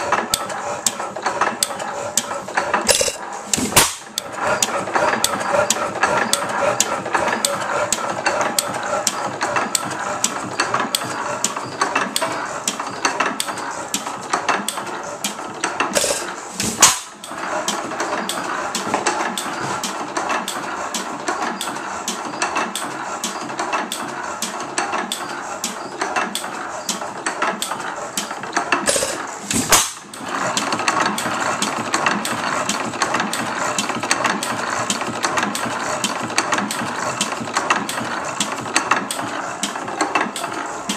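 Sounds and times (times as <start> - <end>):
old gasoline engine clattering: 0.0 - 40.9.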